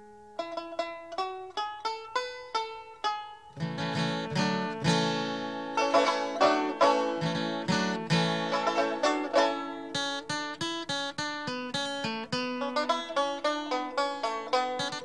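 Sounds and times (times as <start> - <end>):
banjo picking: 0.0 - 15.0
guitar: 0.0 - 15.0.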